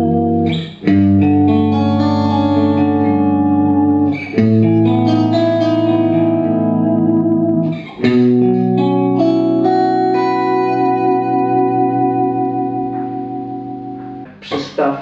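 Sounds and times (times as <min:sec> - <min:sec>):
electric guitar chords and notes: 0:00.0 - 0:14.4.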